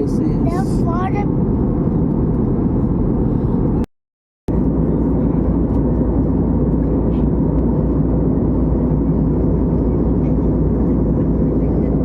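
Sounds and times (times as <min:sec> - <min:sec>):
jet airliner cabin rumble: 0:00.0 - 0:03.9, 0:04.5 - 0:12.0.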